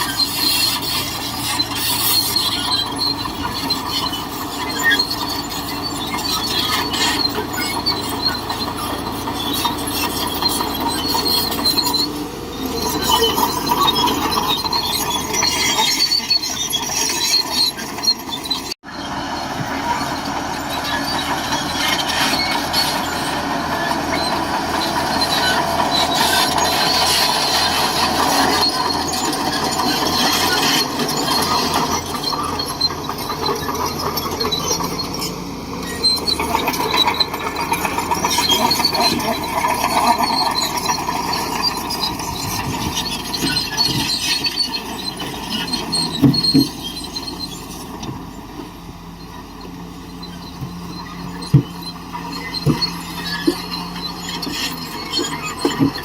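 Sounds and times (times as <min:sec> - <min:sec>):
bulldozer tracks squealing and clanking: 0:00.0 - 0:56.0
diesel engine running: 0:00.0 - 0:56.0.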